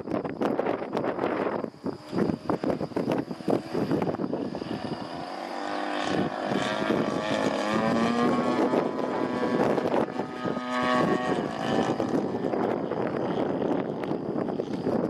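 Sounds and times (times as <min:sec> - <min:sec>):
propeller plane engine: 0:00.0 - 0:15.0.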